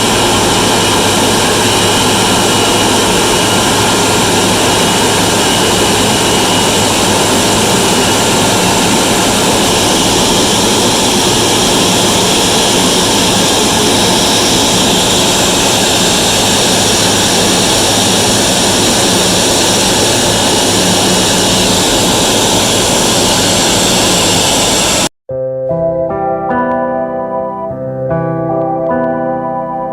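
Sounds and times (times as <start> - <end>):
faint high whine: 0.0 - 25.1
jet engines running: 0.0 - 25.1.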